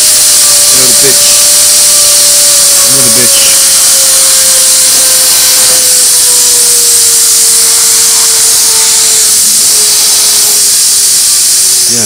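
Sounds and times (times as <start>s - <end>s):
turbine air hiss and whine: 0.0s - 12.0s.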